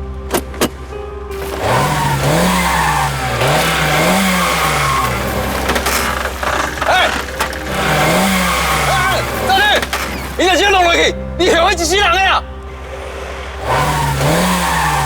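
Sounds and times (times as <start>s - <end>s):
car engine revving: 0.3s - 11.3s, 12.7s - 15.0s.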